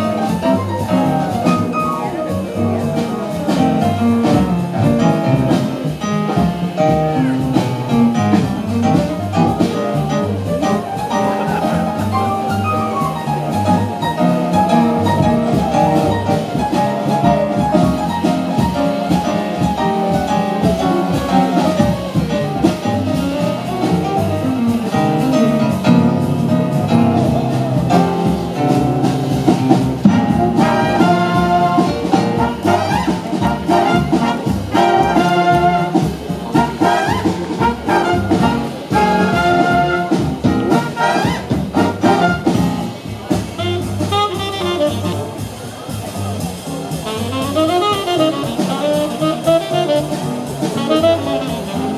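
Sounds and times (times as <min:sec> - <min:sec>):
jazz big band playing: 0:00.0 - 0:51.9.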